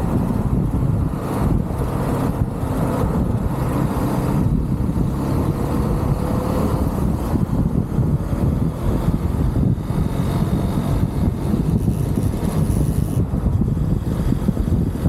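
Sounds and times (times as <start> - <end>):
motorcycle engine running: 0.0 - 15.0
road rumble: 0.0 - 15.0
wind noise: 0.0 - 15.0.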